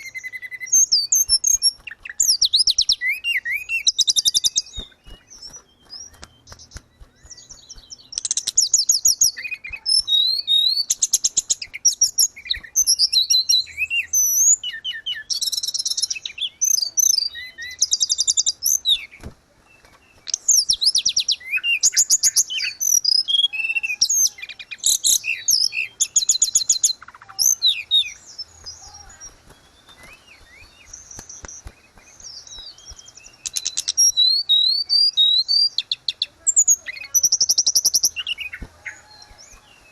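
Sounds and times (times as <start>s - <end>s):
songbird trilling and chirping: 0.0s - 39.9s.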